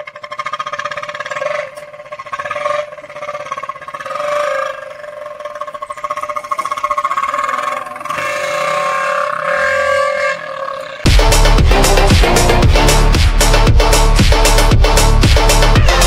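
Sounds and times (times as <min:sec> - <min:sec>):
pulsing toy trumpet horn tone: 0:00.0 - 0:16.0.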